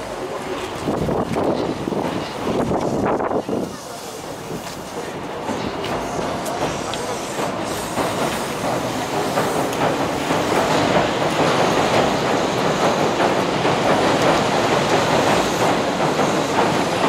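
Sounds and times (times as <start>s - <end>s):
train rumbling across steel bridge: 0.0s - 17.0s.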